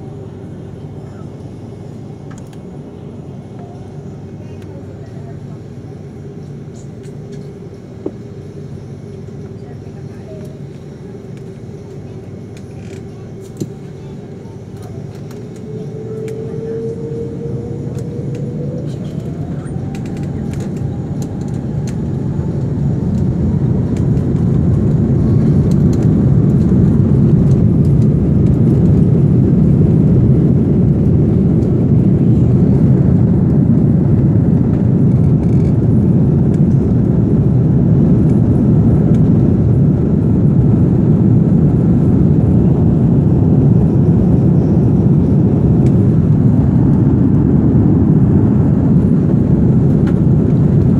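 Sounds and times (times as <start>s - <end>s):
deep engine rumble: 0.0s - 50.9s
jet engine whine: 0.0s - 50.9s.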